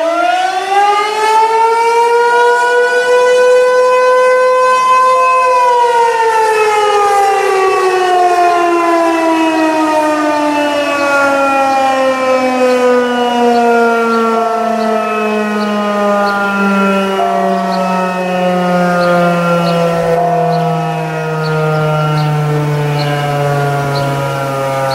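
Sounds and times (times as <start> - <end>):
warning siren winding down: 0.0 - 24.9.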